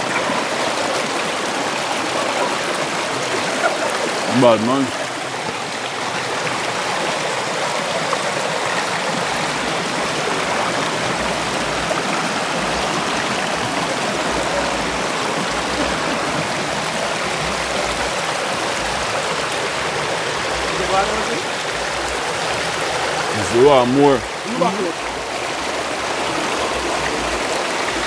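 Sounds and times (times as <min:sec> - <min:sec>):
river flowing over stones: 0:00.0 - 0:28.0.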